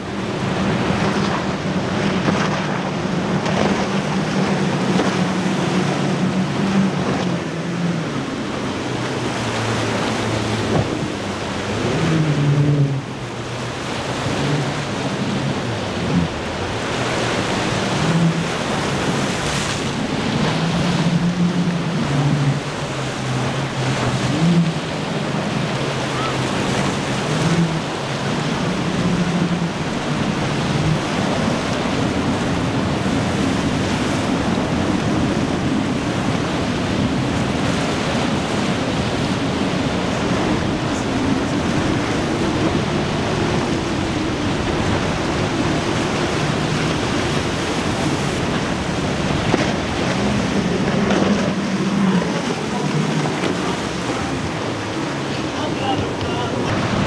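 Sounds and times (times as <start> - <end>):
motorboat engines humming: 0.0 - 57.0
surf breaking: 0.0 - 57.0
wind buffeting microphone: 0.0 - 57.0.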